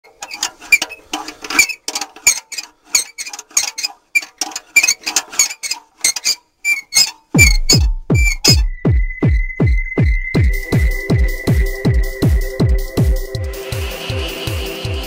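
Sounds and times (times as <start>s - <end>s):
rhythmic clicking and squeaking beat: 0.0s - 15.0s.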